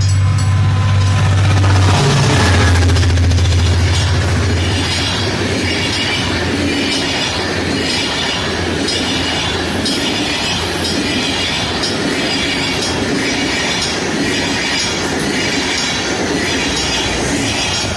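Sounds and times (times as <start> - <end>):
diesel locomotive engine hum: 0.0 - 17.9
train wheel squeal: 0.0 - 17.9.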